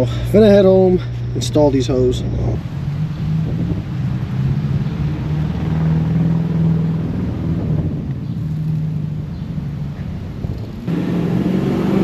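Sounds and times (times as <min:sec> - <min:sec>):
car engine hum inside cabin: 0:01.2 - 0:12.0.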